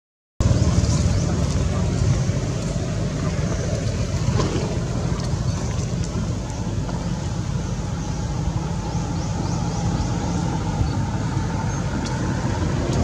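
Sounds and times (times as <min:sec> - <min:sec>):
low outdoor rumble: 0:00.4 - 0:13.0.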